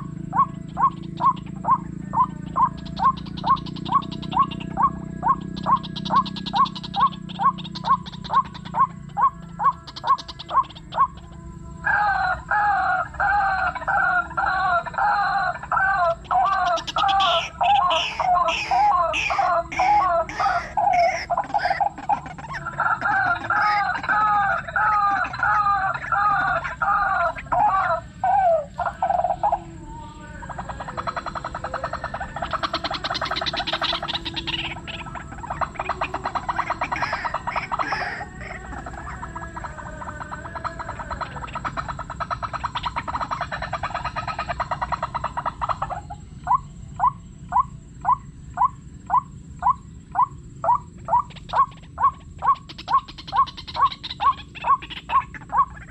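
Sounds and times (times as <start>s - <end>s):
bird two-part croaking calls: 0.0s - 55.9s.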